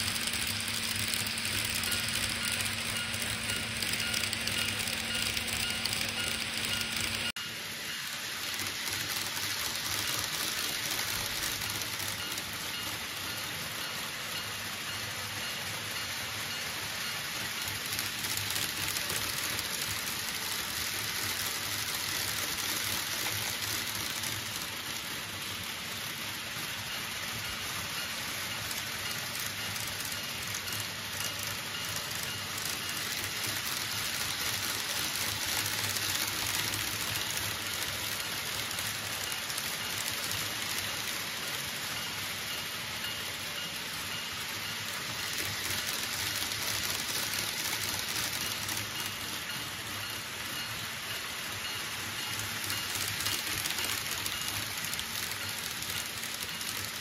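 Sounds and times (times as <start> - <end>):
model train wheels rattling on rails: 0.0 - 57.0.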